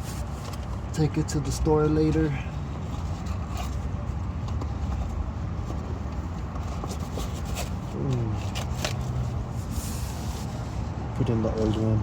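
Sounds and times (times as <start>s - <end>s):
objects rustling and scraping: 0.0s - 1.0s, 2.0s - 11.0s.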